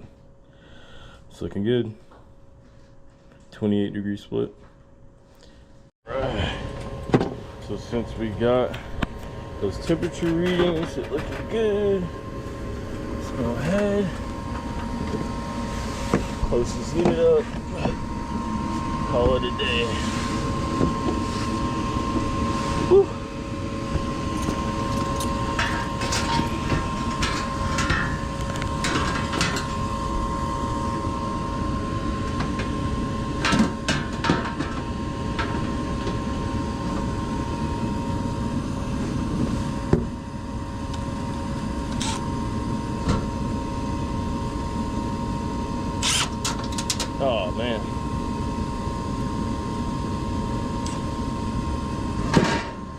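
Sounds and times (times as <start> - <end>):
heating unit humming: 0.0 - 52.9.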